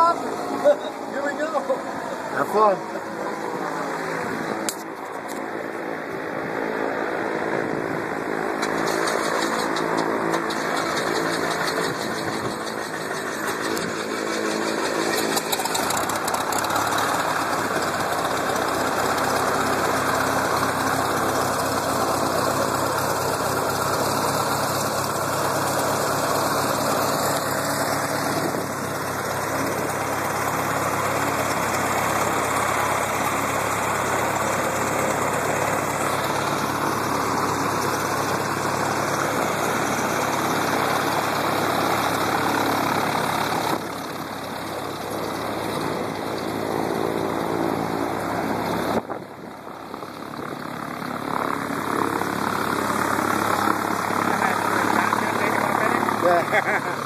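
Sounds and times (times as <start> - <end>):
airplane engine and propeller idling: 0.0 - 57.0.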